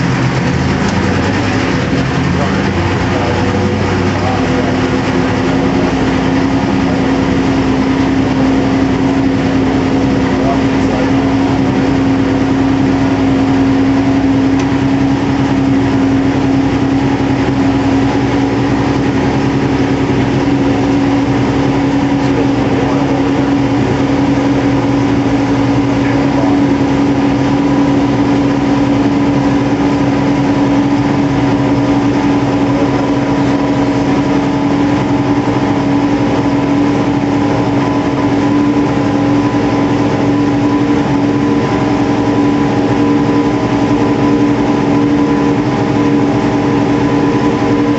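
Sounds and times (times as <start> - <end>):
engine running steadily: 0.0 - 47.9.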